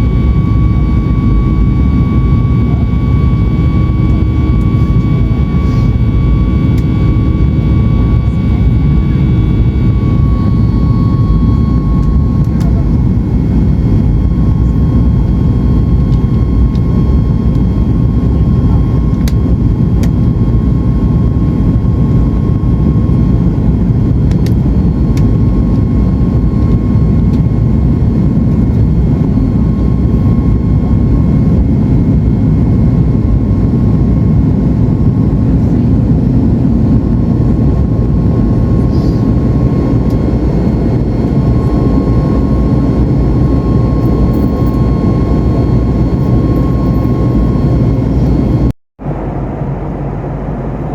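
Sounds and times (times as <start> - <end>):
jet engine cabin rumble: 0.0 - 50.9
thin steady whine: 0.0 - 50.9.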